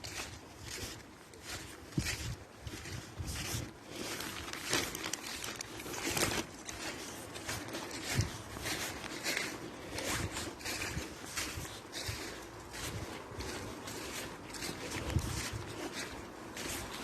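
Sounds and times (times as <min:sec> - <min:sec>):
clothing and phone rustle: 0:00.0 - 0:17.0
footsteps crunching on path: 0:00.0 - 0:17.0.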